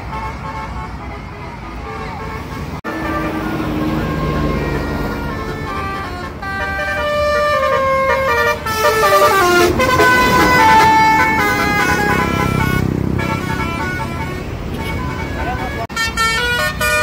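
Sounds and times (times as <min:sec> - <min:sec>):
bus horns playing a tune: 0:00.0 - 0:17.0
low engine rumble: 0:00.2 - 0:15.9.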